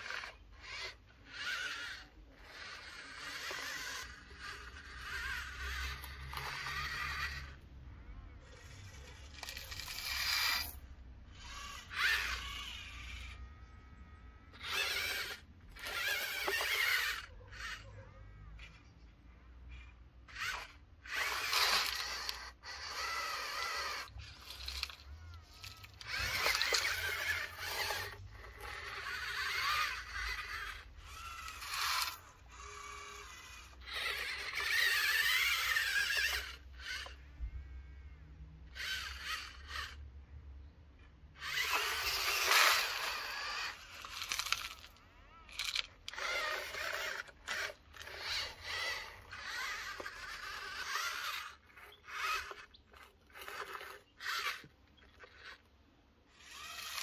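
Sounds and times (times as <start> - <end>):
small electric motors whining: 0.0 - 57.0.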